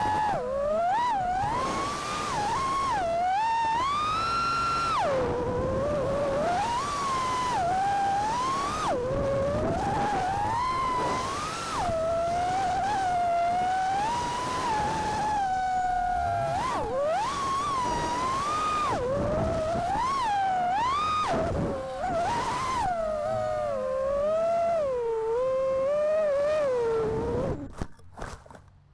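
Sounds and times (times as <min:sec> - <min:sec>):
quadcopter motors whining: 0:00.0 - 0:27.8.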